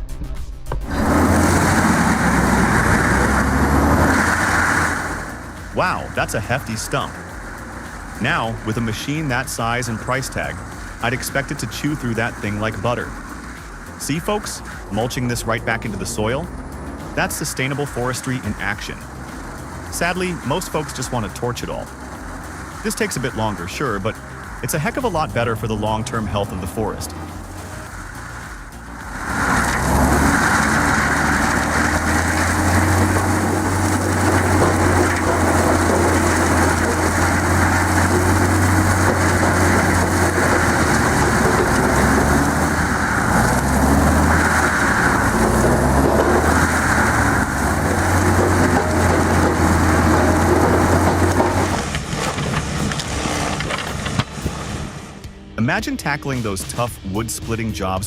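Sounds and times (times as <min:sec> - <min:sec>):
engine droning under load: 0:00.7 - 0:55.6
wood grinding and crushing: 0:00.8 - 0:55.4.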